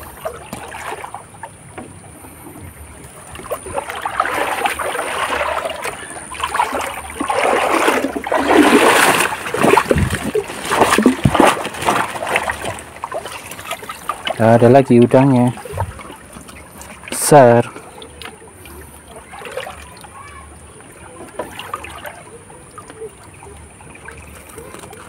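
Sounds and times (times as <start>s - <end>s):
river water splashing: 0.0s - 25.0s.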